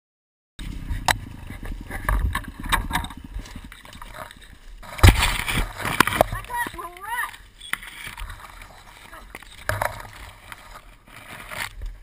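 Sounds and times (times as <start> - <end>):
rustling and clattering in brush: 0.6 - 12.0.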